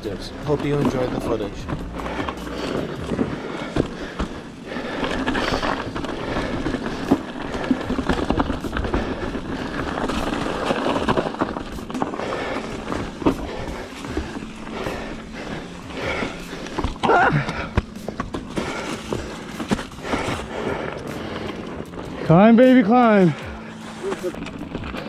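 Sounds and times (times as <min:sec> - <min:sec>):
bike rattling: 0:00.0 - 0:25.0
tyres crunching over rock: 0:00.0 - 0:25.0.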